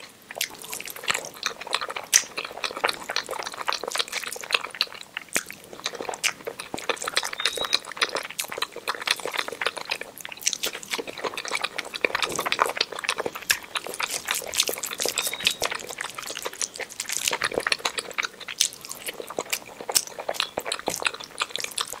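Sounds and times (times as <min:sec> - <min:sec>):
person chewing with mouth clicks: 0:00.0 - 0:22.0.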